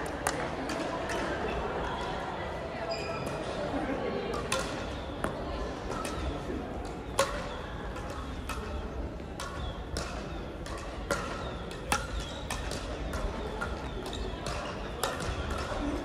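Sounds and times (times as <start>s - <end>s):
hum of a large hall: 0.0s - 16.0s.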